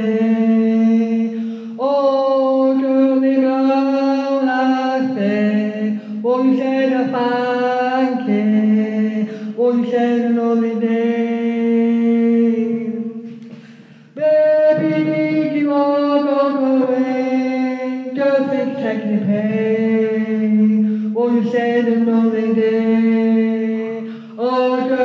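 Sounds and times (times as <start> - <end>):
woman singing unaccompanied: 0.0 - 13.5, 14.2 - 25.0.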